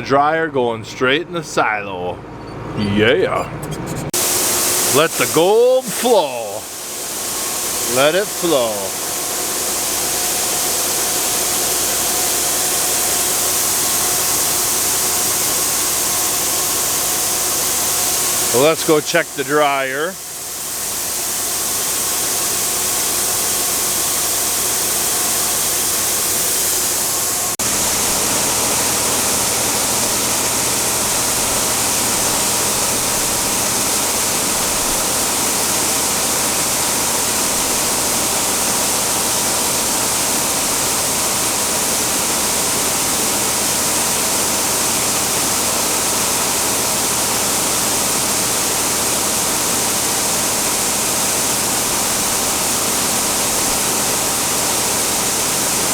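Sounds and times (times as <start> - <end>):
grain dryer rushing: 2.8 - 55.9.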